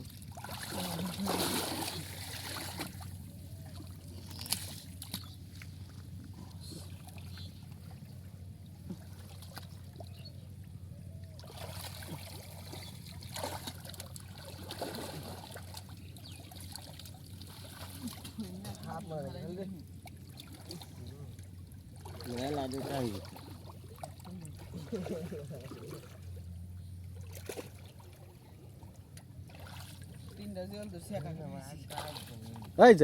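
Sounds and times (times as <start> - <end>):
water trickling and splashing: 0.0 - 33.0.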